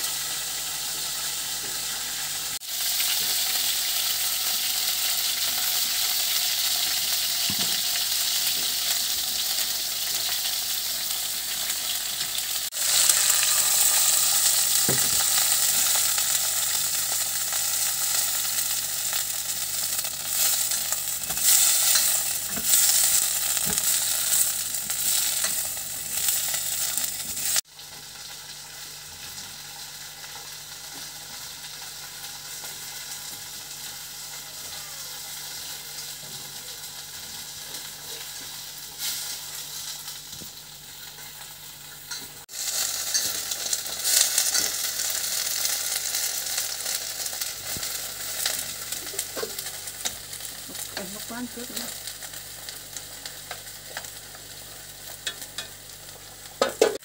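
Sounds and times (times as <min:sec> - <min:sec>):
vegetables sizzling in a pot: 0:00.0 - 0:57.0.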